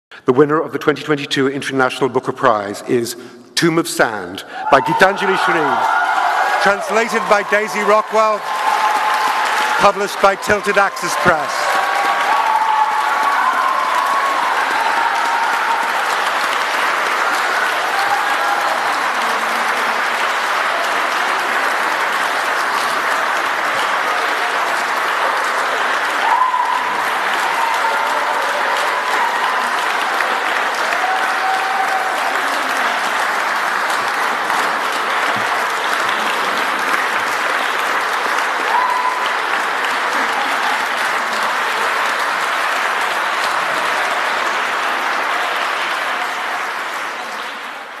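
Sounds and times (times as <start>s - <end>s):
audience applauding: 4.0s - 48.0s.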